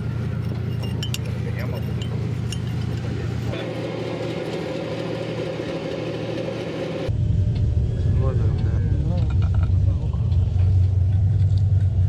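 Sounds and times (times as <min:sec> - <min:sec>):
mechanical drone: 0:00.0 - 0:12.0
vehicle engine rumble: 0:00.0 - 0:12.0.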